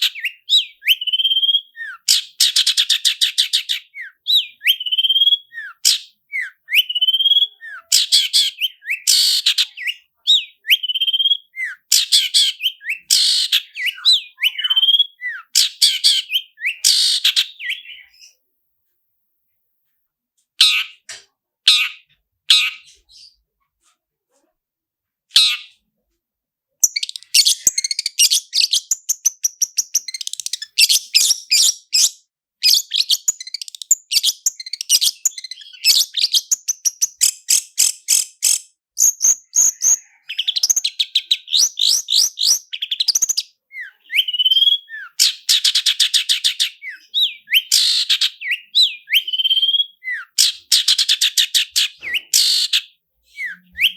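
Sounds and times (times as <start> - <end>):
bird singing with trills: 0.0 - 18.4, 26.8 - 53.9.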